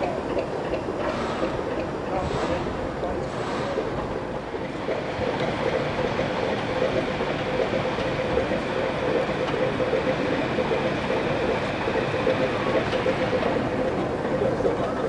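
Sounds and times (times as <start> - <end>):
steam locomotive hiss and rumble: 0.0 - 15.0.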